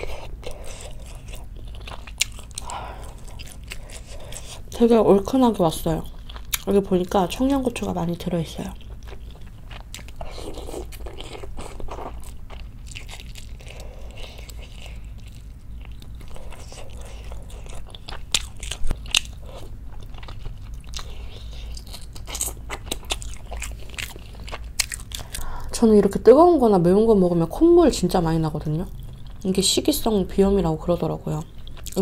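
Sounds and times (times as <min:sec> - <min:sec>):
wet chewing sounds: 0:00.0 - 0:08.0, 0:08.6 - 0:25.6, 0:28.8 - 0:29.6, 0:31.4 - 0:32.0.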